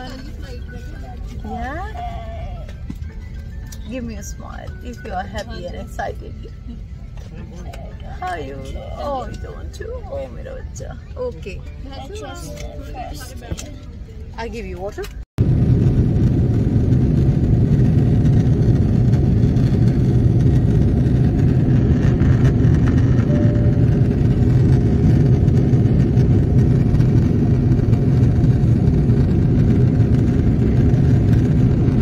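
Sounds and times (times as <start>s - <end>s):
airliner cabin engine noise: 0.0s - 14.3s, 15.0s - 32.0s.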